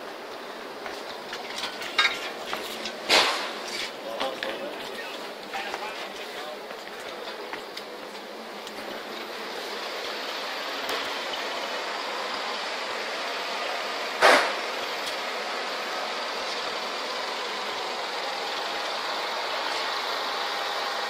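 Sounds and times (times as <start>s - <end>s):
crane engine droning: 0.0s - 21.0s.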